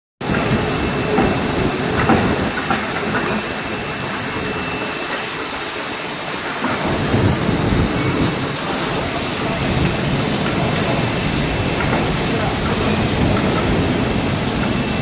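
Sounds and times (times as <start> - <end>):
machine hiss and rumble: 0.2 - 15.0.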